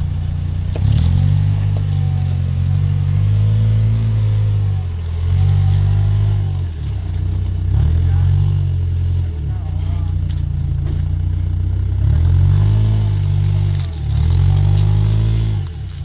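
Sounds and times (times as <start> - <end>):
off-road engine revving: 0.0 - 16.0.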